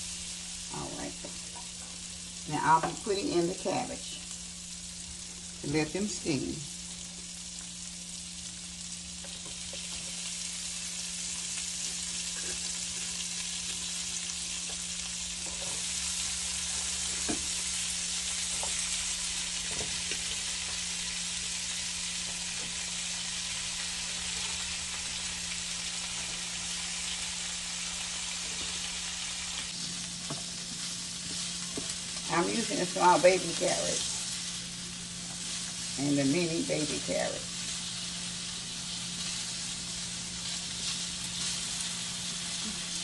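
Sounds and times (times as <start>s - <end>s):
vegetables sizzling in a skillet: 0.0s - 43.0s.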